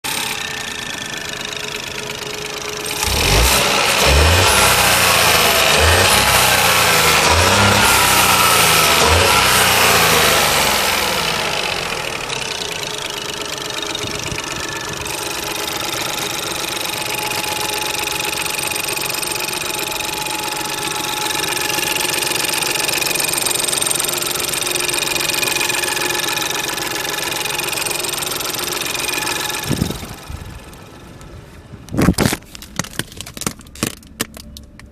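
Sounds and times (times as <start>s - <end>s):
car engine revving and idling: 0.0s - 33.0s.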